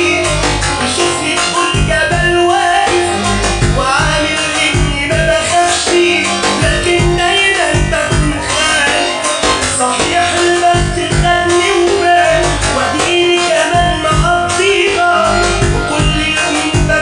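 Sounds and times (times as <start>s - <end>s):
keyboard melody: 0.0s - 17.0s
steady bass beat: 0.0s - 17.0s.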